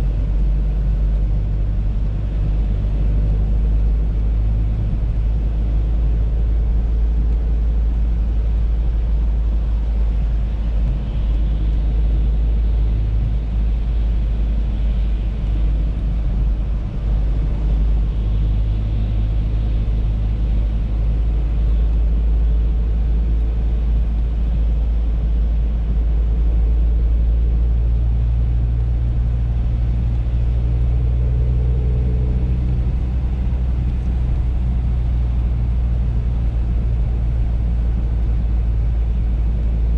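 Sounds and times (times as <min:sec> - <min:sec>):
car engine hum: 0:00.0 - 0:39.9
road rumble inside car: 0:00.0 - 0:39.9.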